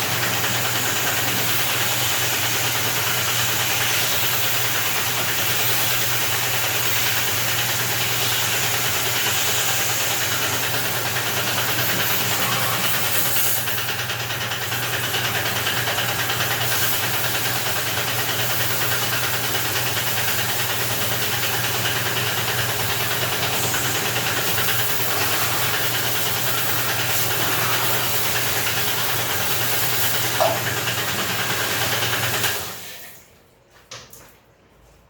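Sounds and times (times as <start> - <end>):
machine humming: 0.0 - 32.8
pressure jet hissing: 0.0 - 32.8.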